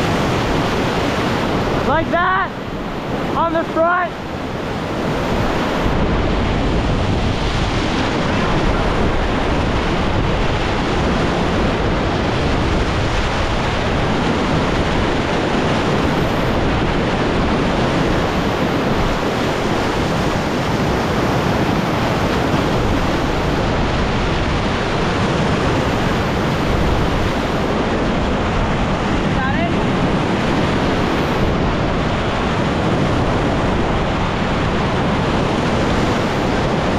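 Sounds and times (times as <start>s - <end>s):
river rapid rushing: 0.0s - 36.9s
wind buffeting microphone: 0.0s - 36.9s.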